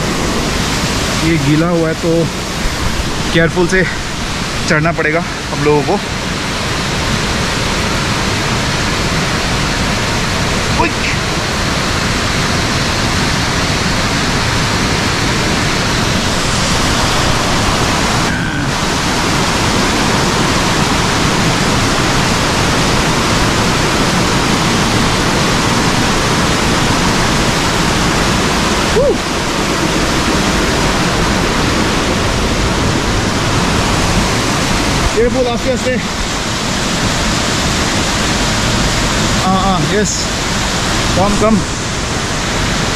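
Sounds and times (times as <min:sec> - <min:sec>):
water rushing over rocks: 0:00.0 - 0:42.9.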